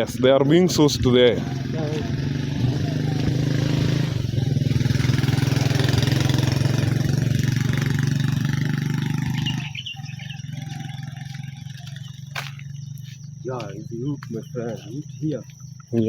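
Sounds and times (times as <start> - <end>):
motor engine humming: 0.0 - 16.0.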